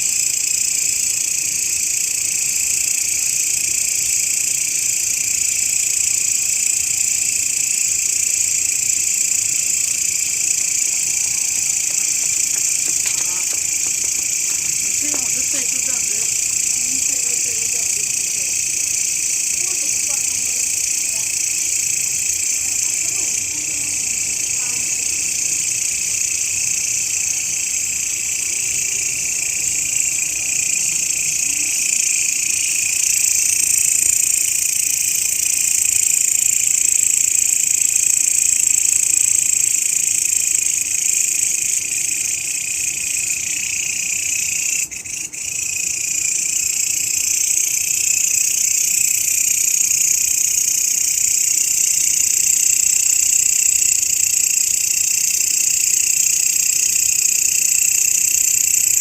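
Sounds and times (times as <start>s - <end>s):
grasshoppers buzzing: 0.0s - 59.0s.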